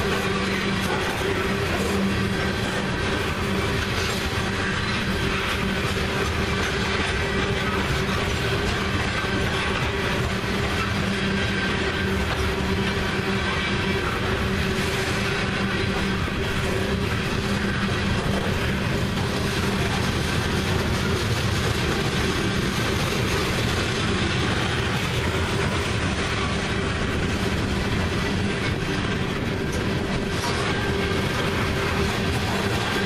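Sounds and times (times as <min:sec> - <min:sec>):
train cars rumbling on rails: 0:00.0 - 0:33.0.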